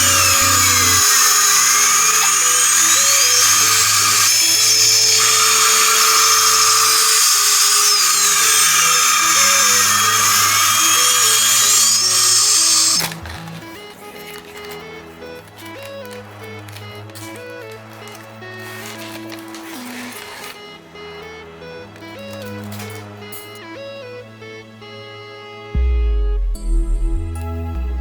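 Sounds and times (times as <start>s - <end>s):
background music: 0.0s - 28.0s.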